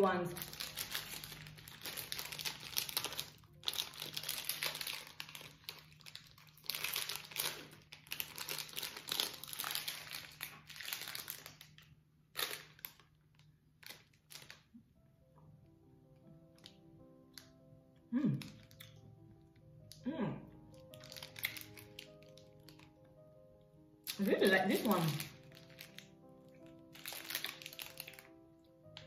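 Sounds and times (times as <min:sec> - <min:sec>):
plastic candy wrapper crinkling: 0:00.2 - 0:14.8, 0:16.5 - 0:17.6, 0:18.3 - 0:23.2, 0:24.0 - 0:29.0.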